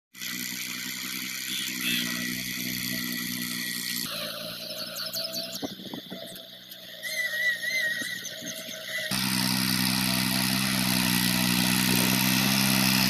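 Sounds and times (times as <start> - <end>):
tractor engine whining: 0.2 - 13.0.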